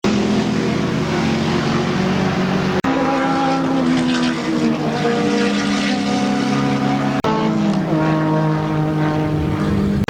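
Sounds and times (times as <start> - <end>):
racing car engine running: 0.0 - 10.0.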